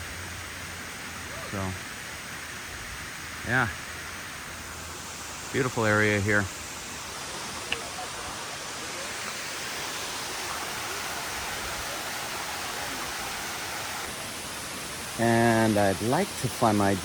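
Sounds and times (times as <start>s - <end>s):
rushing waterfall and stream: 0.0s - 17.0s.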